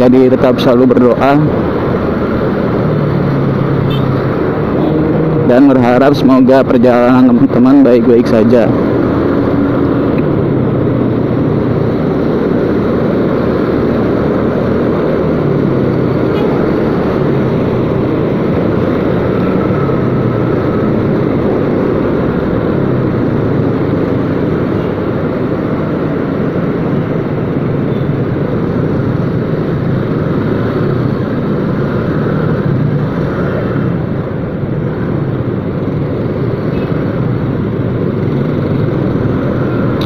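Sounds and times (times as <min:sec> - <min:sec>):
motorcycle engine rumble: 0:00.0 - 0:40.0
surrounding traffic noise: 0:00.0 - 0:40.0.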